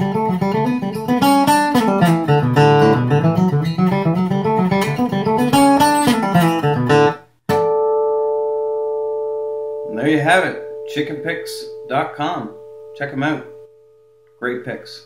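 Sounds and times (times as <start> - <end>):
acoustic guitar single-note run: 0.0 - 15.0
guitar chord ringing: 0.0 - 15.0.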